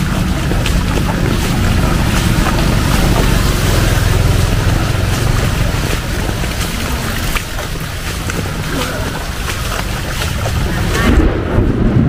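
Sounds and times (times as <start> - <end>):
sharp drips and splashes: 0.0 - 11.9
heavy rain pouring: 0.0 - 12.0
low rumble: 0.0 - 12.0.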